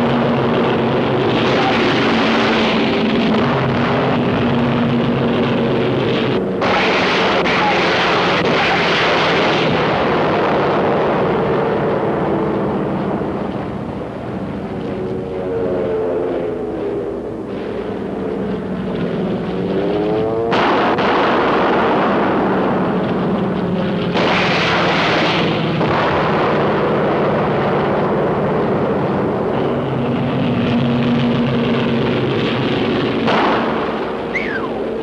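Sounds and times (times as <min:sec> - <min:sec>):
propeller aircraft engine drone: 0:00.0 - 0:35.0.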